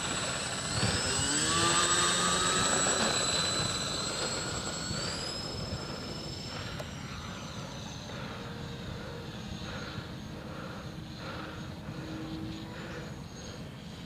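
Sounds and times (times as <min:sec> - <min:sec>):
model plane electric motors whining: 0:00.0 - 0:14.0.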